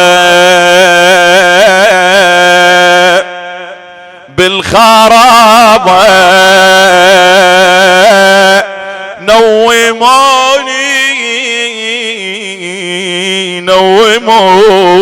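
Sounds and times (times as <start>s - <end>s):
person chanting a mourning lament: 0.0s - 15.0s.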